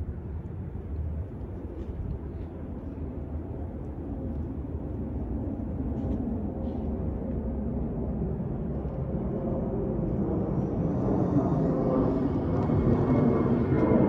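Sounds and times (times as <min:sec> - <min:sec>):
jet airliner flying overhead: 0:00.0 - 0:14.0.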